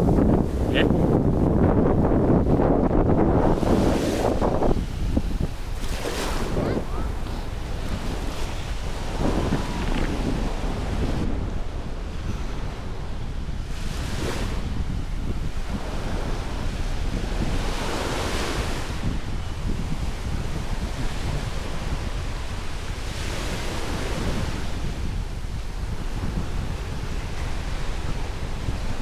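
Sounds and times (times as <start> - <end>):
ocean waves breaking: 0.0 - 29.0
wind rumble on microphone: 0.0 - 29.0.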